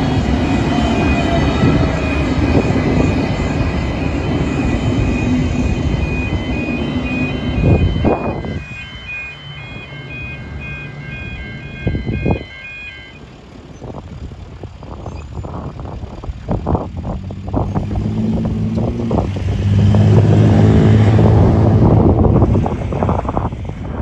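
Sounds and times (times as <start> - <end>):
crossing warning bells: 0.0 - 24.0
diesel train rumbling: 0.0 - 24.0.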